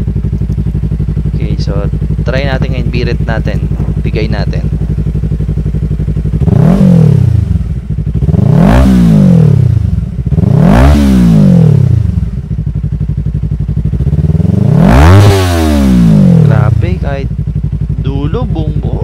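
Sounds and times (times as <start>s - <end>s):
motorcycle engine idling: 0.0s - 19.0s
motorcycle engine revving: 0.0s - 19.0s.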